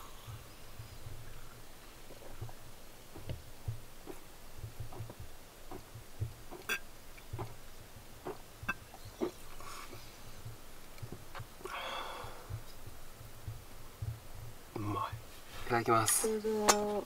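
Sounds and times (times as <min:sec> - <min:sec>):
man swallowing water: 0:00.0 - 0:15.3.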